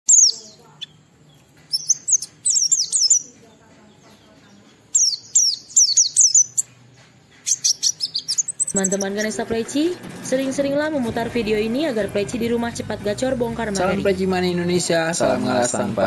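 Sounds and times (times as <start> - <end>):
bird singing rapid high chirps: 0.1 - 16.0.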